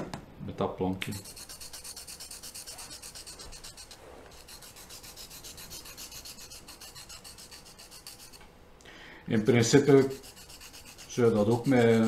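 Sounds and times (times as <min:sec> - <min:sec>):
pencil lead scraping sandpaper: 0:01.0 - 0:08.4, 0:09.3 - 0:12.0.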